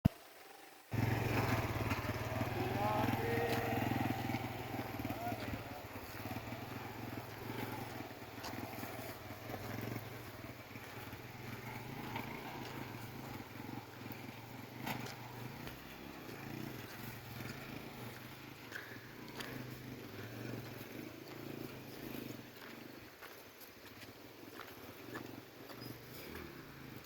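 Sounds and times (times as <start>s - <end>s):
motorcycle engine fluttering: 0.1s - 27.0s.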